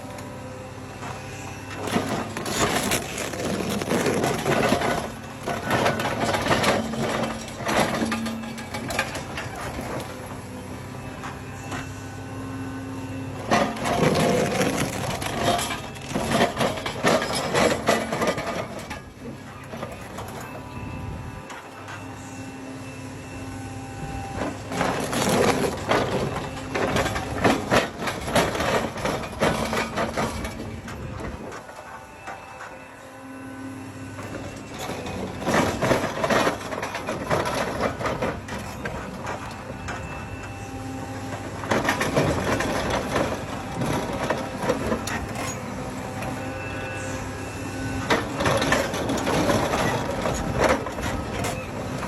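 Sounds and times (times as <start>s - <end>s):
excavator engine humming: 0.0s - 52.0s.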